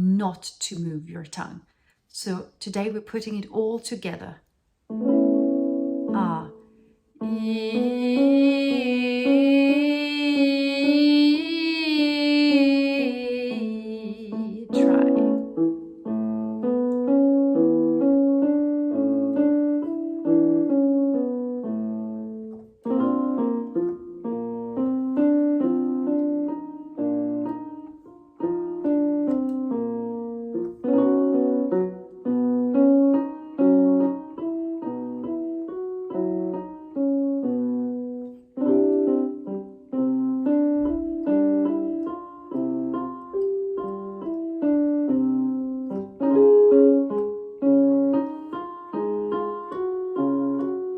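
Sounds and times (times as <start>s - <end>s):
piano playing notes and chords: 4.8s - 50.9s.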